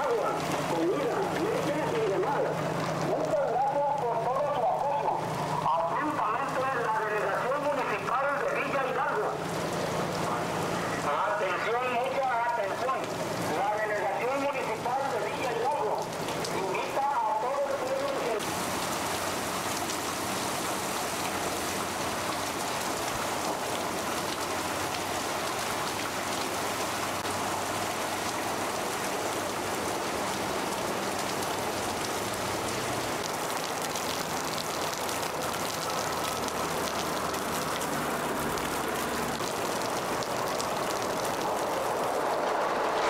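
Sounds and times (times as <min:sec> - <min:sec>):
wind driving heavy rain: 0:00.0 - 0:43.0.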